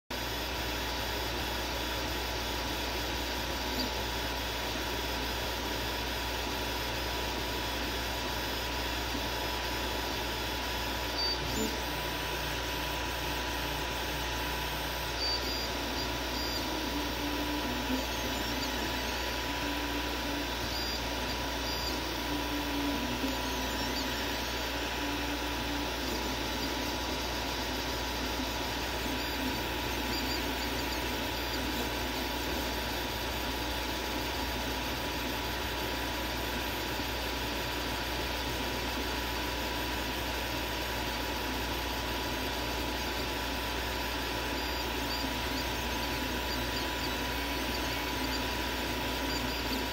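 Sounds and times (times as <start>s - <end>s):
printer fan hiss: 0.2s - 49.9s
stepper motors humming: 0.3s - 49.9s
steady whine: 0.5s - 39.1s, 40.4s - 49.9s.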